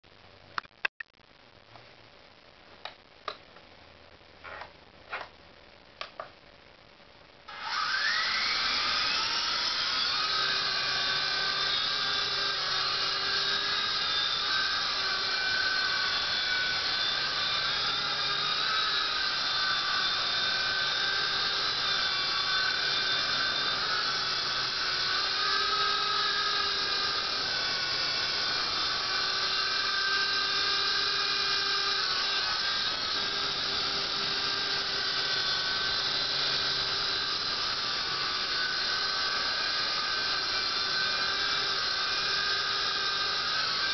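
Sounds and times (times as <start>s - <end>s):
rc helicopter motor whine: 7.5s - 43.9s
rotor hum: 7.7s - 43.9s.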